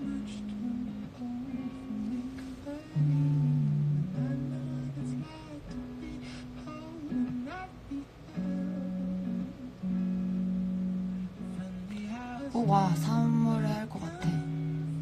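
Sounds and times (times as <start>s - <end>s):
acoustic guitar slow chords: 0.0s - 15.0s.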